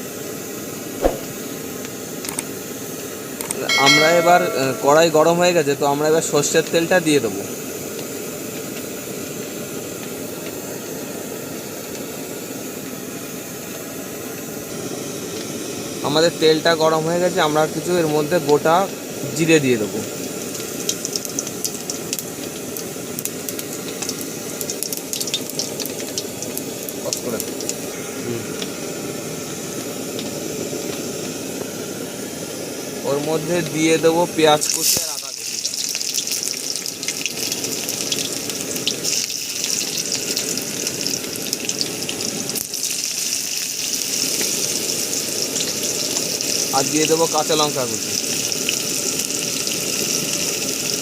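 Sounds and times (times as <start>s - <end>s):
seeds sizzling in hot oil: 1.7s - 51.0s.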